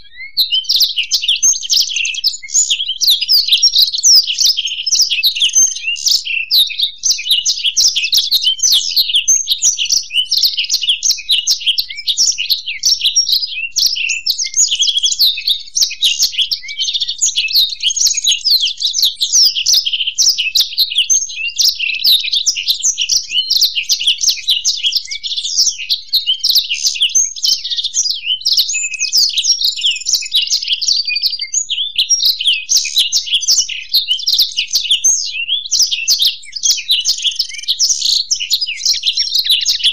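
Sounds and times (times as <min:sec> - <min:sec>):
canary singing: 0:00.0 - 0:39.9
goldfinch singing: 0:00.0 - 0:39.9.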